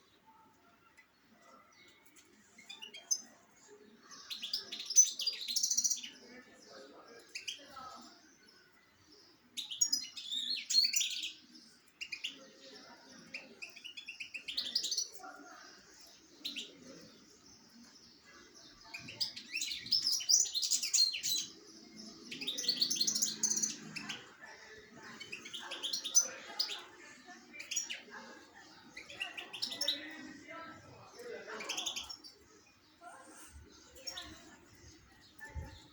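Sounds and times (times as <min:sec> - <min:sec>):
songbirds chirping and twittering: 0:00.0 - 0:35.9.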